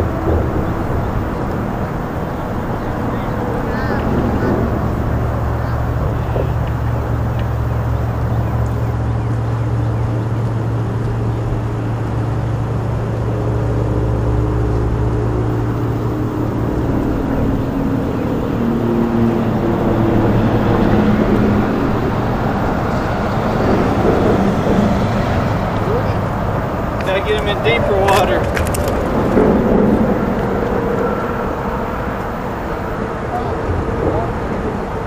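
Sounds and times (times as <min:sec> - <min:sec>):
distant motor droning: 0:00.0 - 0:35.0.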